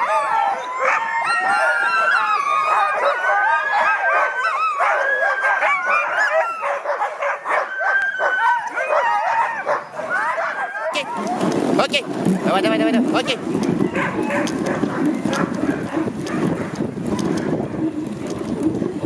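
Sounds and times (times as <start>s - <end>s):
sled dogs yelping and howling: 0.0s - 11.5s, 13.5s - 18.8s.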